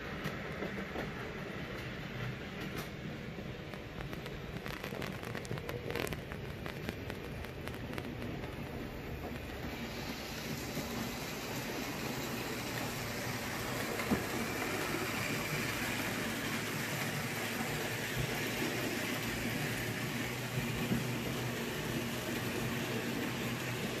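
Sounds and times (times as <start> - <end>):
model train rolling on rails: 0.0 - 24.0.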